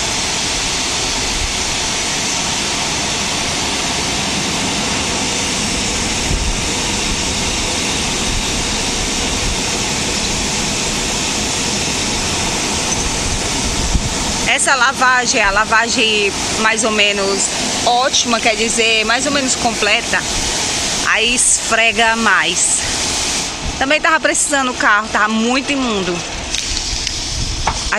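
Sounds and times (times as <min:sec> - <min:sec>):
car wash water spray: 0:00.0 - 0:27.9.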